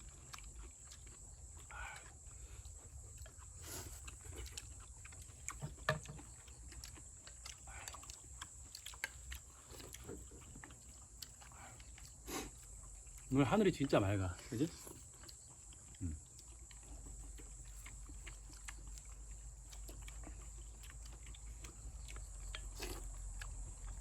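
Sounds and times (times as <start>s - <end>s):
people chewing and slurping: 0.0s - 24.0s.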